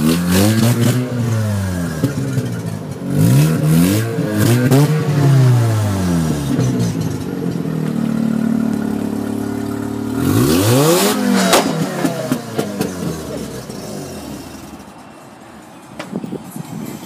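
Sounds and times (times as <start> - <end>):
rotary engine idling and revving: 0.0 - 15.0.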